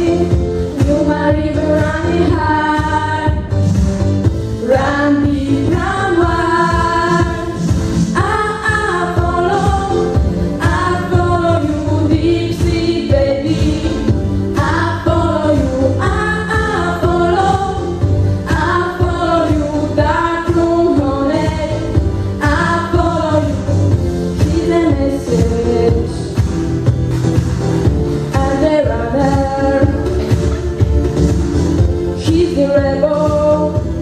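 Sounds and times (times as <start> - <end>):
girls singing into microphones: 0.0 - 26.5, 28.3 - 30.7, 31.8 - 34.0
musical accompaniment with beat: 0.0 - 34.0.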